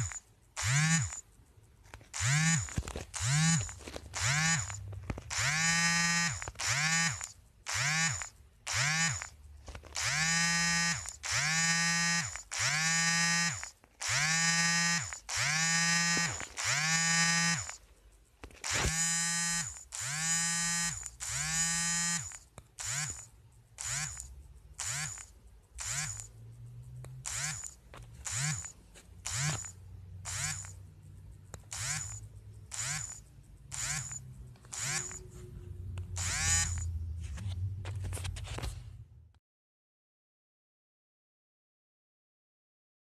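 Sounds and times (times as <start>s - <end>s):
phone vibration buzzing: 0.0s - 1.3s, 1.9s - 26.4s, 27.2s - 30.9s, 31.6s - 37.1s.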